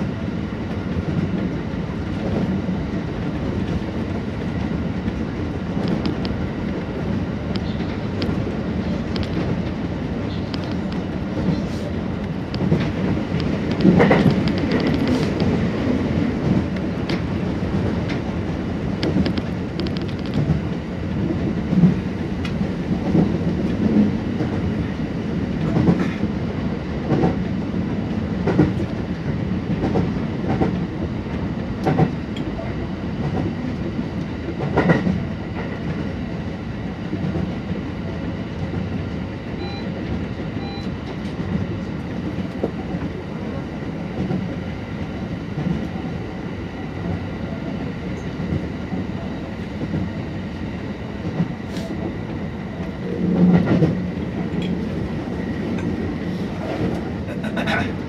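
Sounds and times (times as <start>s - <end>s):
electric train rolling rumble: 0.0s - 58.0s
oncoming train passing: 0.0s - 58.0s.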